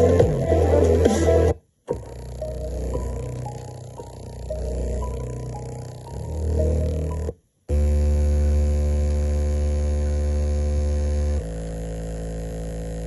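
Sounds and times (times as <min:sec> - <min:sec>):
loudspeaker playing low hum: 0:00.0 - 0:13.0.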